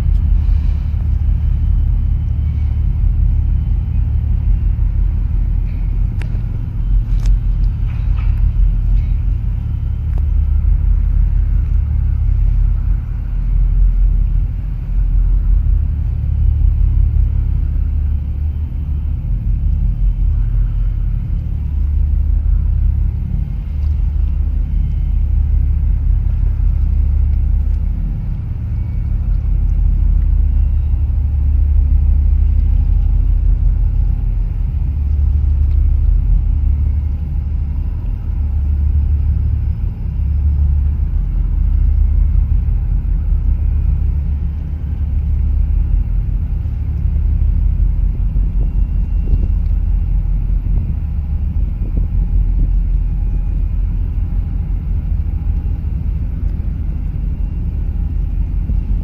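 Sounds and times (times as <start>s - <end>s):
boat engine rumble: 0.0s - 59.0s.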